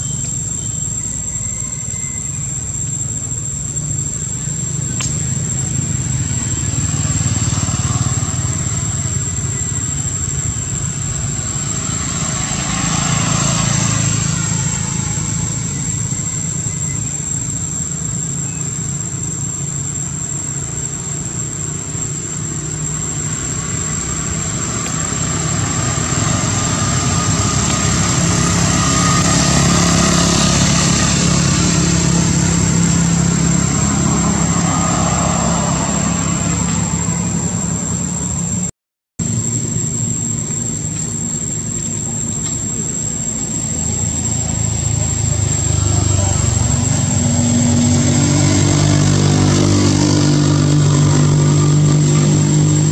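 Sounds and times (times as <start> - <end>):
high-pitched whine: 0.0 - 52.9
traffic engine hum: 0.0 - 52.9.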